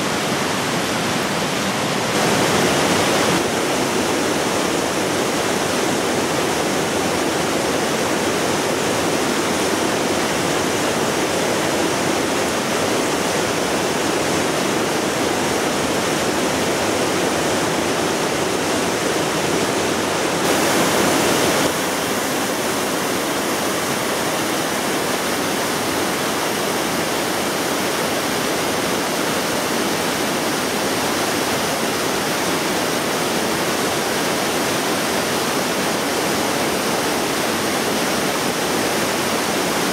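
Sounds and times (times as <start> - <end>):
white-water river rushing: 0.0 - 39.9.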